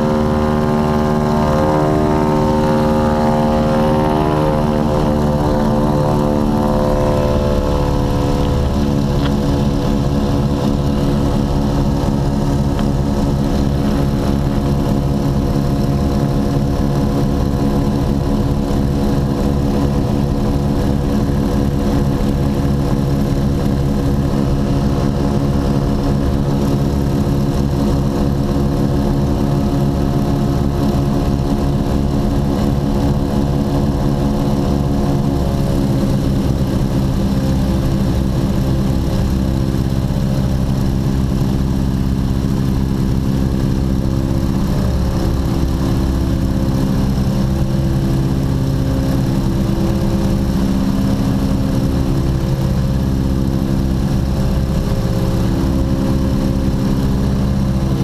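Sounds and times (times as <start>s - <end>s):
propeller aircraft engines droning: 0.0s - 58.0s.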